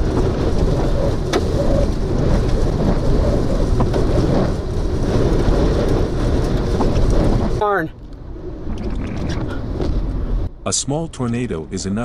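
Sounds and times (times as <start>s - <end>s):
rain: 0.0s - 11.8s
wind: 0.0s - 12.0s.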